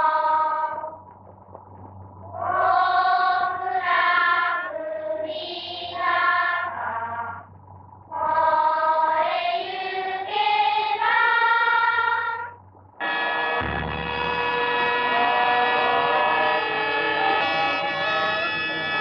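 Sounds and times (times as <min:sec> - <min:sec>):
low recording hum: 0:00.0 - 0:19.0
group of voices singing: 0:02.5 - 0:07.4, 0:08.2 - 0:19.0.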